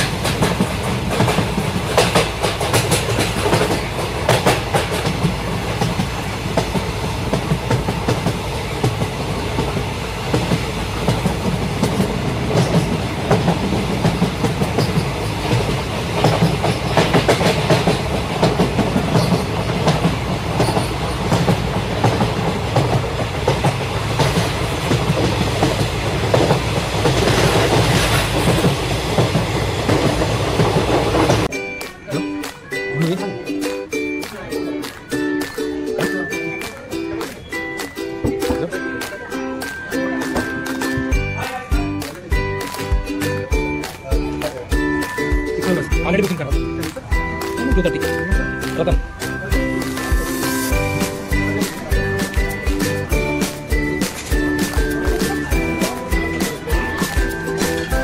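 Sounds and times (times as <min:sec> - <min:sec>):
train clattering on rails: 0:00.0 - 0:32.7, 0:33.6 - 0:58.0.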